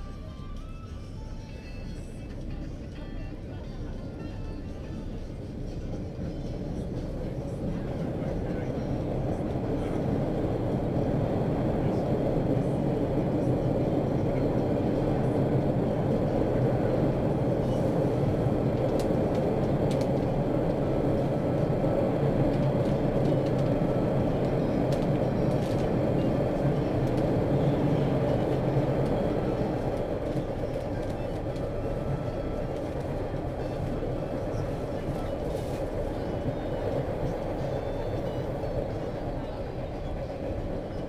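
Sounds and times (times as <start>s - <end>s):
subway train rumbling on rails: 0.0s - 41.0s.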